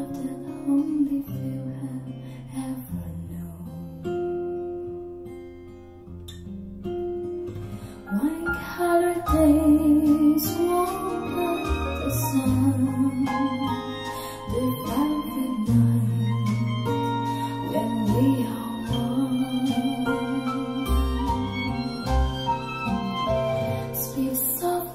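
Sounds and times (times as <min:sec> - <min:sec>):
pop song with guitar and singing: 0:00.0 - 0:04.4, 0:07.8 - 0:24.9.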